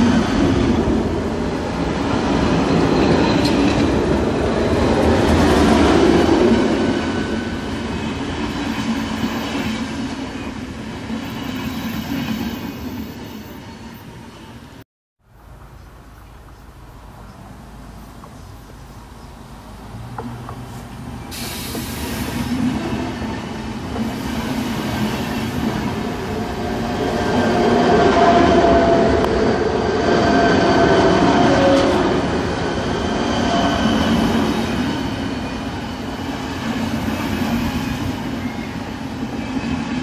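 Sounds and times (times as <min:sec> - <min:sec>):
electric train passing: 0:00.0 - 0:14.8, 0:15.6 - 0:40.0.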